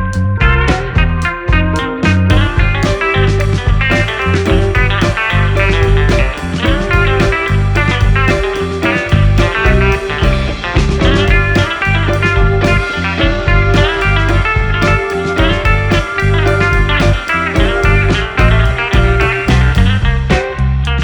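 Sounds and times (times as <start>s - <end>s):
blues-rock music with guitar: 0.0s - 21.0s.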